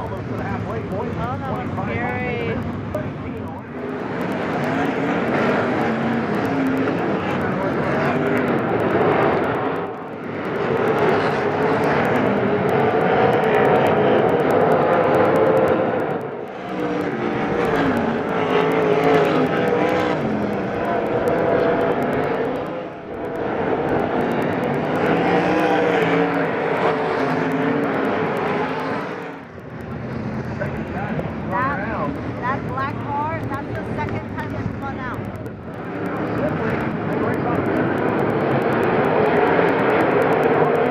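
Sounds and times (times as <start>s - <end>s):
race car engines at full throttle: 0.0s - 40.9s.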